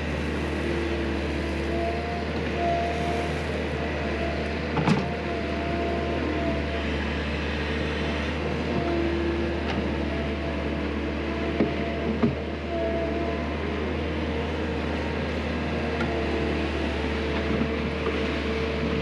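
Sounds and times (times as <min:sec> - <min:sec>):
loader engine running: 0:00.0 - 0:19.0.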